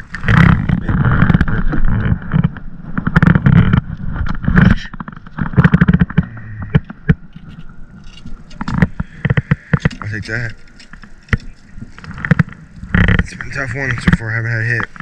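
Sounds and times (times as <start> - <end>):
sharp clicks and knocks: 0.0 - 15.0.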